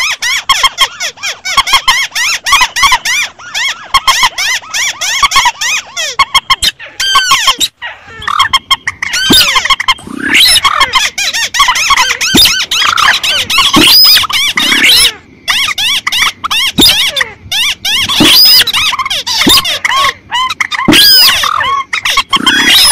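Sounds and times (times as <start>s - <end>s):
swamphen rail and crake calls: 0.0s - 22.9s.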